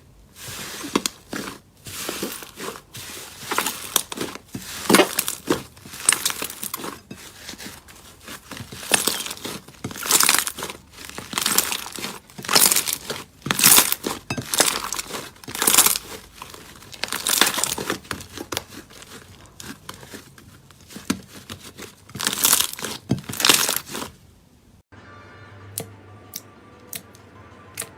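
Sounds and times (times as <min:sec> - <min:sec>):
slime crackling and popping: 0:00.4 - 0:24.1.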